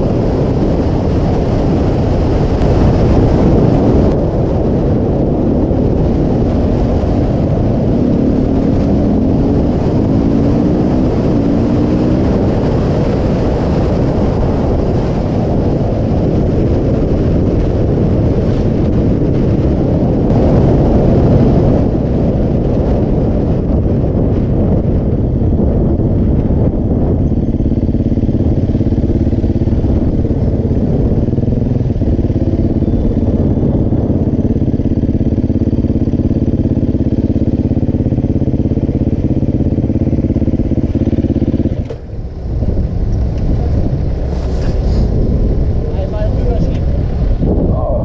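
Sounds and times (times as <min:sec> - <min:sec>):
motorcycle engine: 0:00.0 - 0:48.0
road noise: 0:00.0 - 0:48.0
wind noise: 0:00.0 - 0:48.0.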